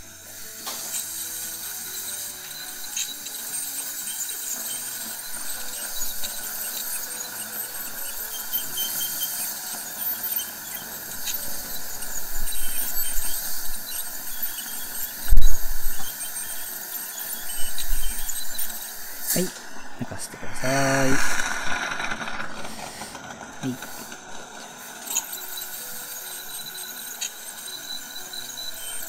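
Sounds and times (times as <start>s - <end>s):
dental scaler hissing: 0.0s - 29.0s
dental suction: 0.0s - 29.0s.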